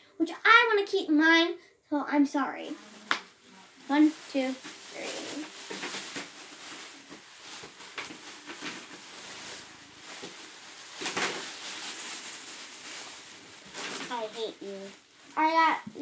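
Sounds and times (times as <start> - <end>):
plastic bags crinkling and rustling: 2.6 - 16.0.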